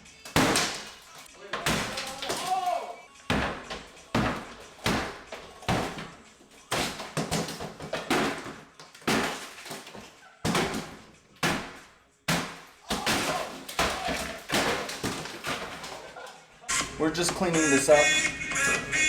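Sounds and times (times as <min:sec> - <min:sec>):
debris rattling: 0:00.0 - 0:19.0.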